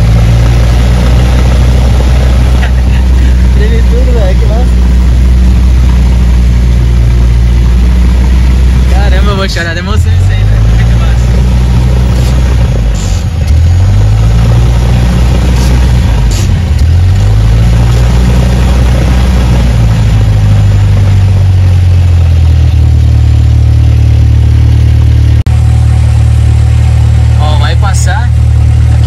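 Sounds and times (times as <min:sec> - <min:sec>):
airplane engine and propeller: 0:00.0 - 0:29.0.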